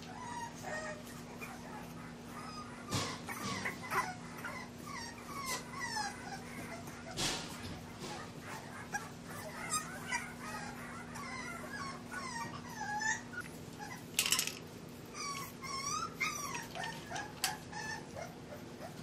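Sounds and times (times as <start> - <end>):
puppies whimpering and squealing: 0.0 - 19.0.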